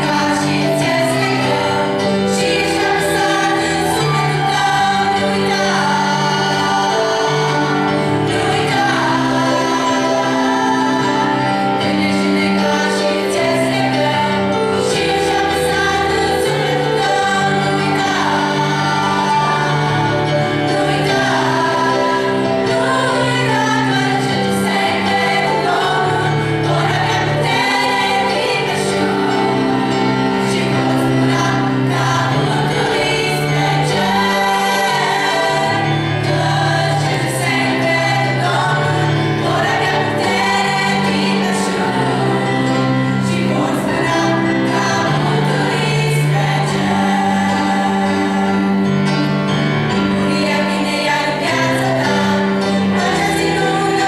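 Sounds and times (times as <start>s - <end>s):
girls singing together: 0.0s - 48.9s, 50.2s - 54.0s.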